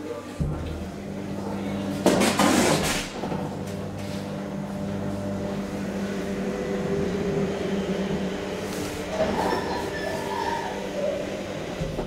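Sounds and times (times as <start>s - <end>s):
elevator mechanical hum: 0.0s - 12.0s.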